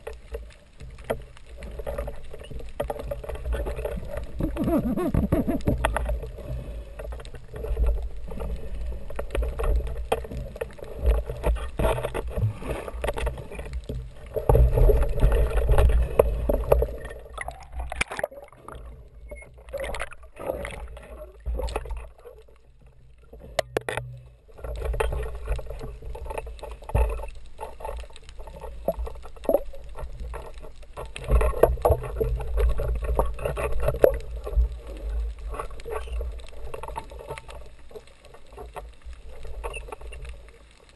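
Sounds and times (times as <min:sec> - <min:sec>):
clicks and crackles: 0:00.0 - 0:40.9
underwater rumble of water: 0:00.0 - 0:40.9.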